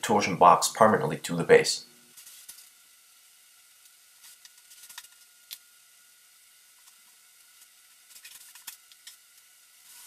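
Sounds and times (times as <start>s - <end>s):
faint high hum: 0.0s - 10.0s
room hiss: 0.0s - 10.0s.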